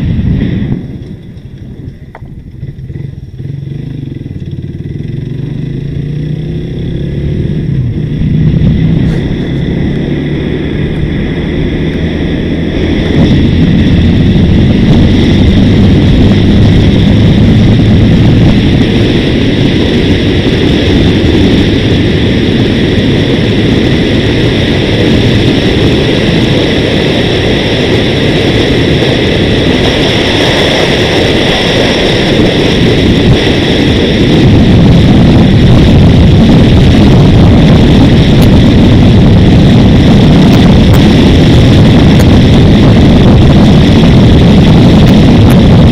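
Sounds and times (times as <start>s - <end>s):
road noise: 0.0s - 45.9s
vehicle engine: 0.0s - 45.9s
wind rushing over microphone: 0.0s - 45.9s.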